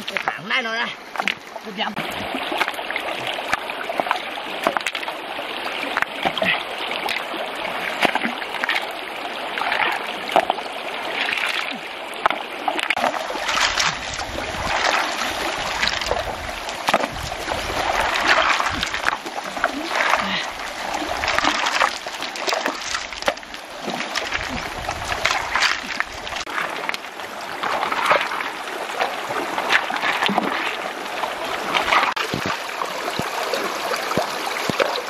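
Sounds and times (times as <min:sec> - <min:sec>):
stream rushing: 0:00.0 - 0:35.0
water splashing: 0:00.0 - 0:35.0.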